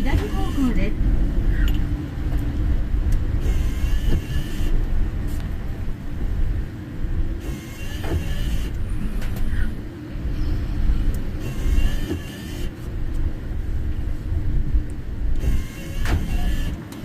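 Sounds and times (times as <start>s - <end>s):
road and engine rumble: 0.0s - 17.0s
tyres swishing on wet road: 0.0s - 17.0s.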